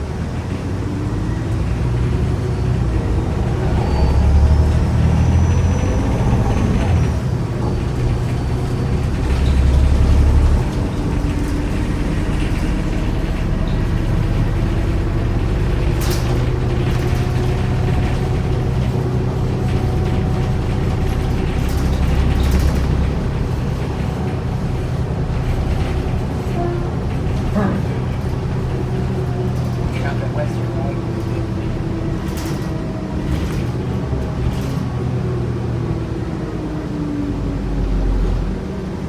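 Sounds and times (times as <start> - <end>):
bus engine drone: 0.0 - 39.0
short rattles: 2.0 - 35.4.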